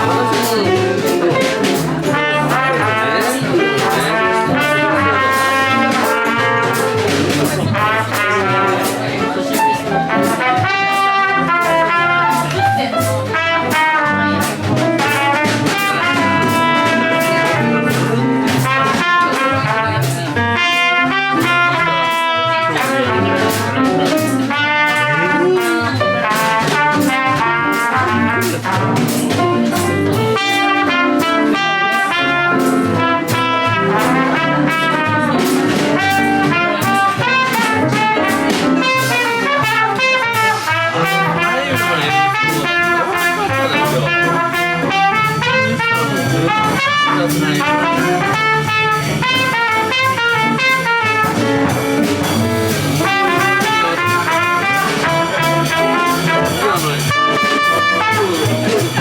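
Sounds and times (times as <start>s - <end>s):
horn melody: 0.0s - 59.0s
live jazz band playing: 0.0s - 59.0s.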